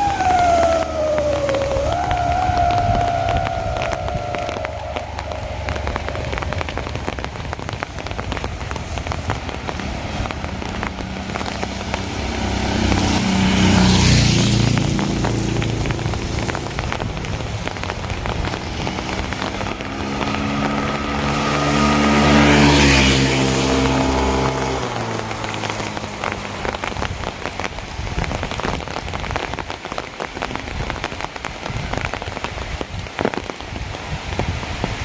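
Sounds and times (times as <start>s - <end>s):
steady rain pattering: 0.0s - 35.0s
vehicles passing on wet road: 0.0s - 35.0s.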